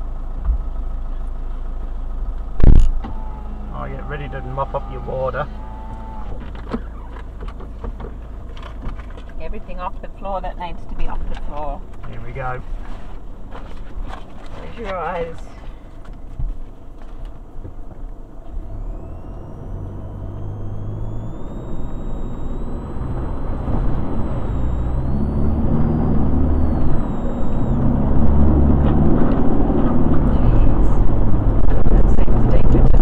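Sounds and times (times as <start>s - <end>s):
car engine pulling: 0.0s - 33.0s.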